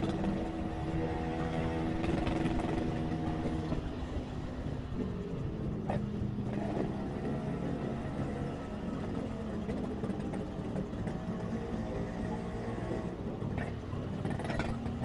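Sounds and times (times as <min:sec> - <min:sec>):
motorcycle engine running: 0:00.0 - 0:15.0
road traffic: 0:00.0 - 0:15.0.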